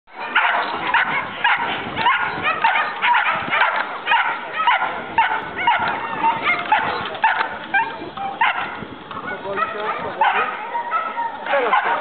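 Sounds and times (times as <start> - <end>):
dog barking and yelping: 0.1 - 12.0.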